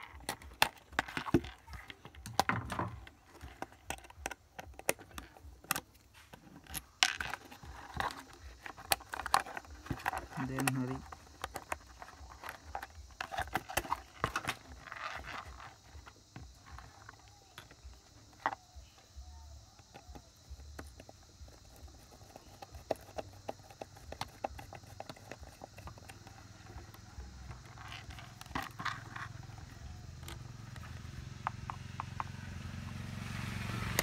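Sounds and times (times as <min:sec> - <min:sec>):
tools clicking and tapping on electronics: 0:00.0 - 0:15.4, 0:19.8 - 0:32.4.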